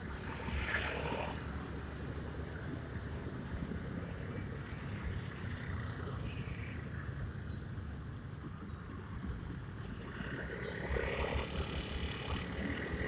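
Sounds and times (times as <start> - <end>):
scooter engine and road rumble: 0.0 - 13.0.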